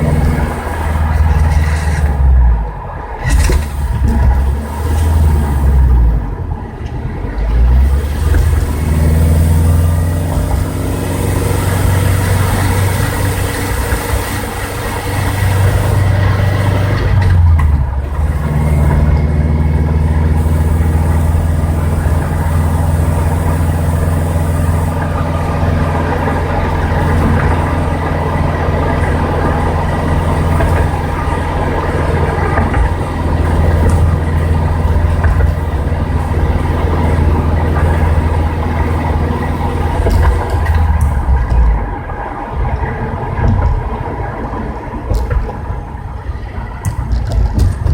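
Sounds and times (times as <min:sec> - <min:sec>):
car engine running on the move: 0:00.0 - 0:47.9
drivetrain grinding noise: 0:00.0 - 0:47.9.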